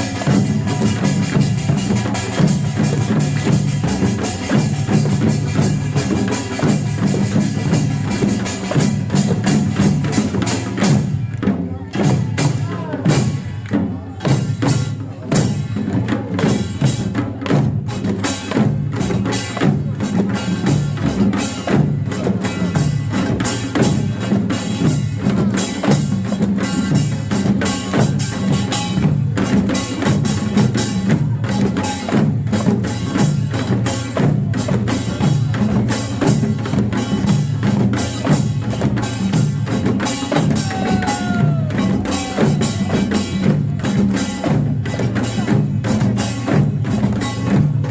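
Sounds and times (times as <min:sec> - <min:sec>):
barrel drums: 0:00.0 - 0:47.9.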